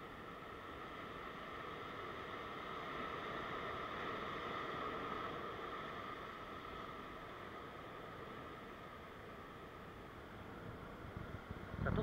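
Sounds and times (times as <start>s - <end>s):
ocean surf breaking on rocks: 0.0s - 12.0s.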